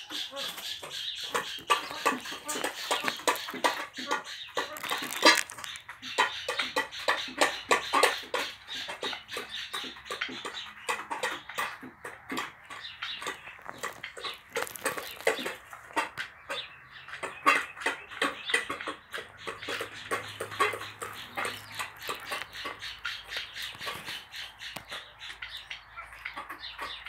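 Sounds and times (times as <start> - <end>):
beaks tapping on metal bowl: 0.5 - 25.7.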